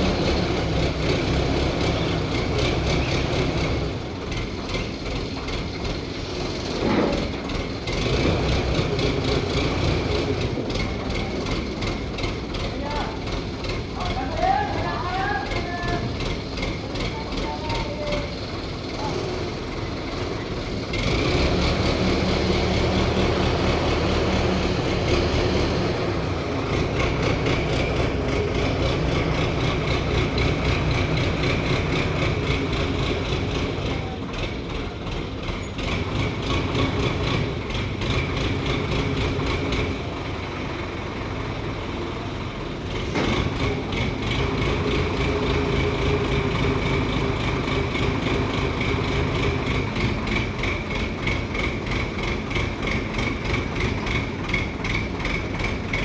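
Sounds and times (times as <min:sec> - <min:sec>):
heavy engine running: 0:00.0 - 0:56.0.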